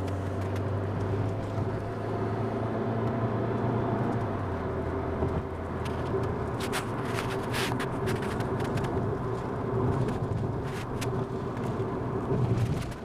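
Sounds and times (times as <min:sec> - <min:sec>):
car running: 0:00.0 - 0:13.0.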